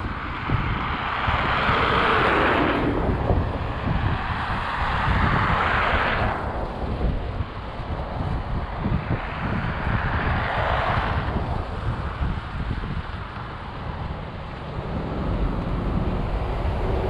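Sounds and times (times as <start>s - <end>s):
vehicles passing: 0.0s - 17.0s
wind buffeting microphone: 0.0s - 17.0s.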